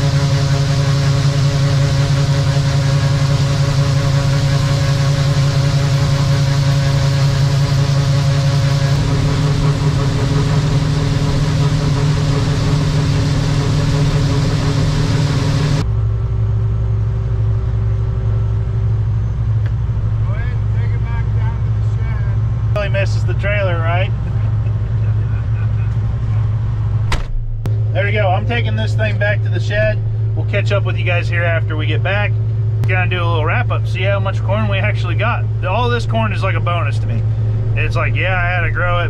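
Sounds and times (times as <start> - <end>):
combine engine drone: 0.0 - 39.0.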